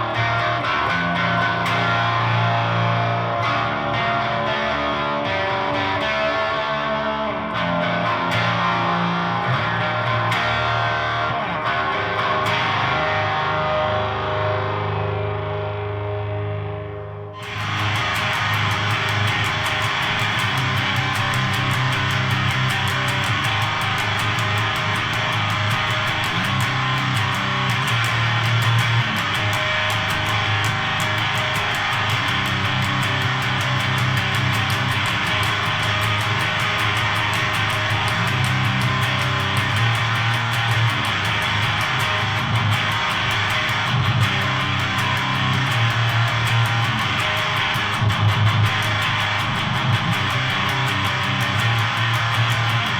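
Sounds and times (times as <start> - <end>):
distorted electric guitar chugging: 0.0 - 52.9.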